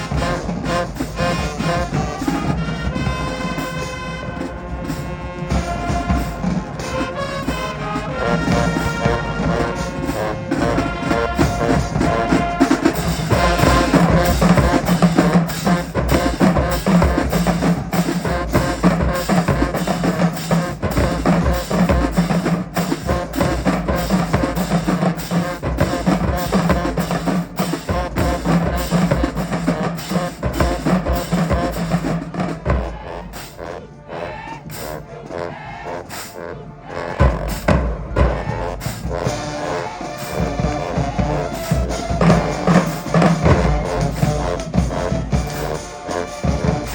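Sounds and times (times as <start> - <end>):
bass and snare drums: 0.0 - 33.8, 36.0 - 46.9
marching band brass: 0.0 - 46.9.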